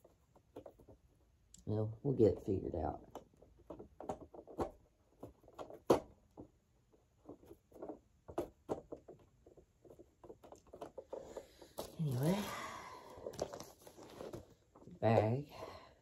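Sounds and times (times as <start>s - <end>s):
plastic parts clicking and knocking: 2.3s - 15.4s.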